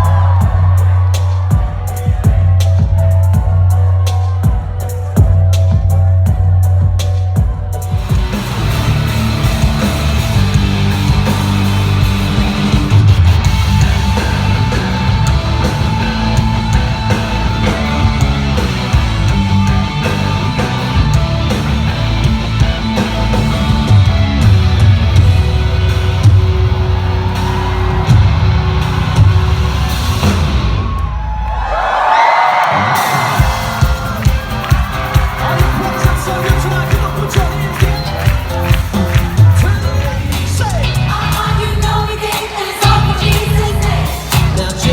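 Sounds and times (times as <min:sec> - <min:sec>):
live rock band playing: 0:00.0 - 0:31.0, 0:32.8 - 0:44.9.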